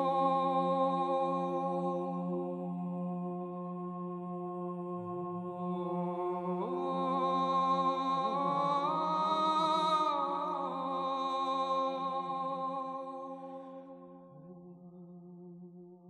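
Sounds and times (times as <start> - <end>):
humming chant-like tones: 0.0 - 16.0.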